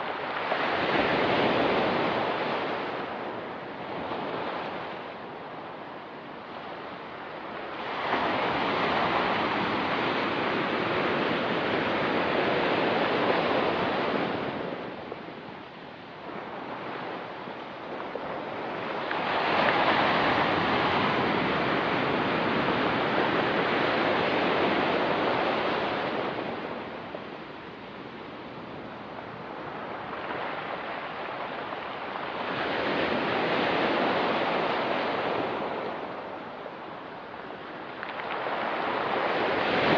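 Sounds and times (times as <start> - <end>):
waves on a rocky beach: 0.0 - 39.9.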